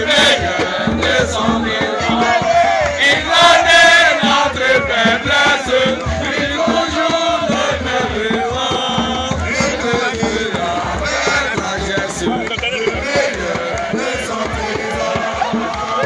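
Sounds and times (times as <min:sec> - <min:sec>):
group singing and chanting: 0:00.0 - 0:16.0
steady rhythmic beat: 0:00.0 - 0:16.0.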